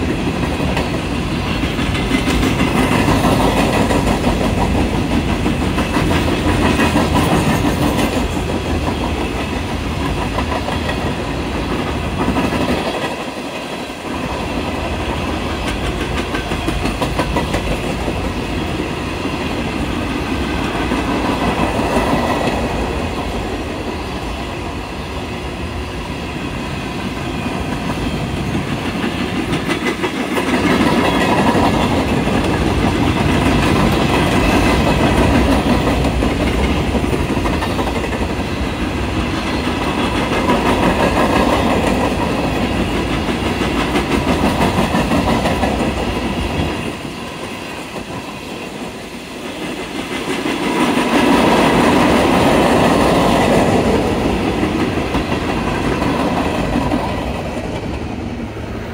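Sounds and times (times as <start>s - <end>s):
train wheels clattering over rail joints: 0.0s - 18.8s, 27.5s - 58.0s.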